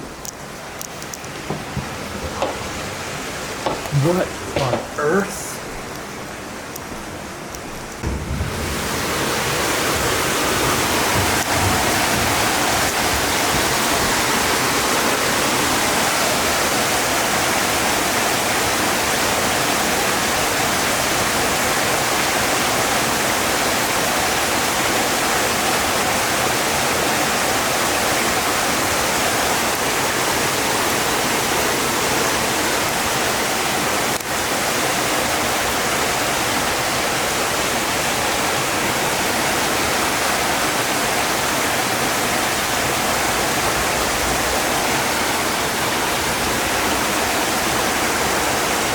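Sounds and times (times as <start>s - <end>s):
floodwater rushing: 0.0s - 6.6s, 8.0s - 48.9s
rain: 0.0s - 48.9s.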